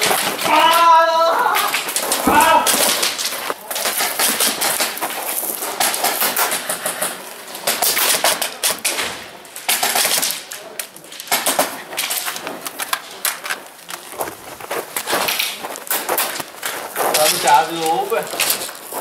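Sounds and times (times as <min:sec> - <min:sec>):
airsoft guns firing: 0:00.0 - 0:19.0.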